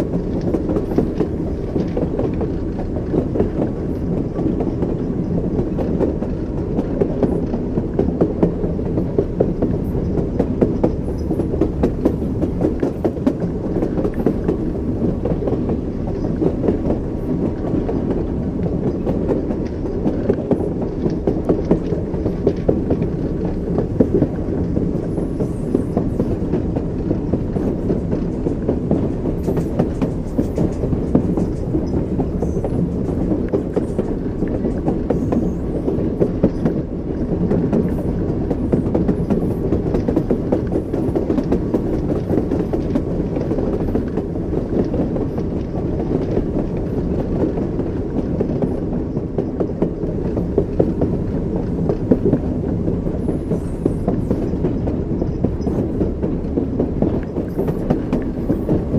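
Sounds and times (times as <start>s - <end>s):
railway car rumble: 0.0s - 58.9s
train wheels clacking: 0.0s - 58.9s.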